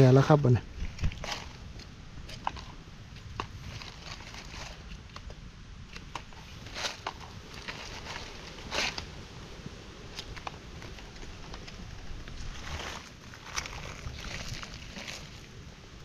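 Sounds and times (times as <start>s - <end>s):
dry leaves and twigs crackling: 0.0s - 16.0s.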